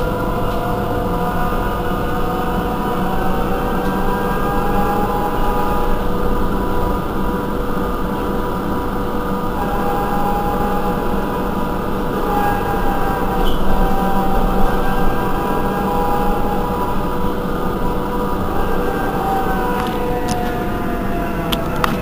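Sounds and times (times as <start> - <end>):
high-pitched whine: 0.0 - 22.0
trolleybus electrics humming: 0.0 - 22.0.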